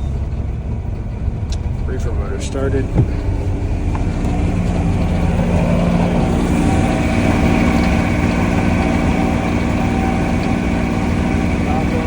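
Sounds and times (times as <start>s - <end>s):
refrigeration unit motor droning: 0.0s - 12.0s.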